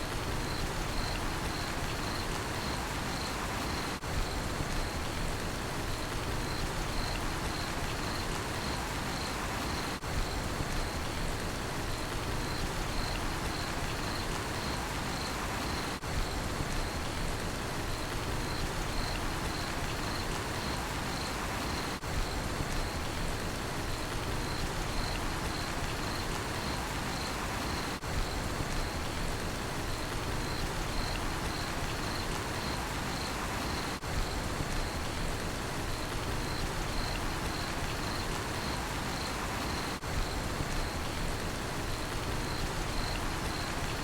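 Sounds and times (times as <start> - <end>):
rain falling: 0.0 - 44.0
cricket chirping: 0.2 - 5.2, 6.0 - 11.2, 12.3 - 17.2, 18.0 - 23.2, 24.3 - 29.2, 29.8 - 35.2, 35.9 - 41.2, 41.9 - 44.0.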